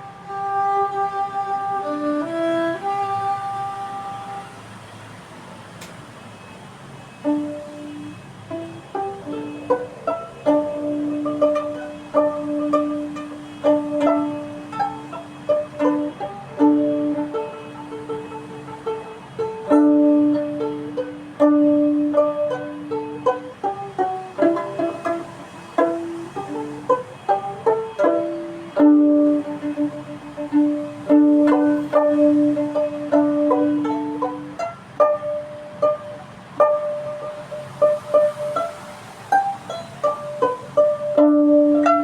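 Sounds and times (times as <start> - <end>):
plucked string notes: 0.0 - 4.5, 7.2 - 42.0
held low string note: 0.0 - 4.6, 7.2 - 42.0.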